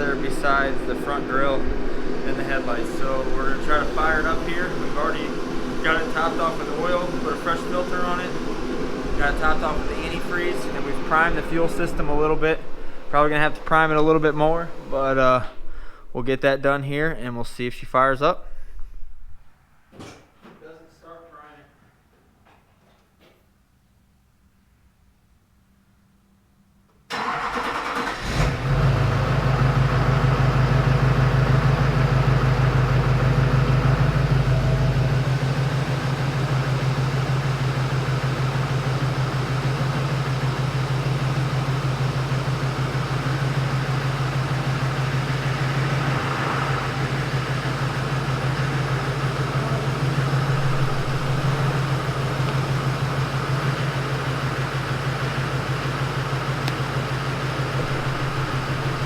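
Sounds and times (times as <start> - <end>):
diesel engine running: 0.0 - 16.0, 27.1 - 59.0.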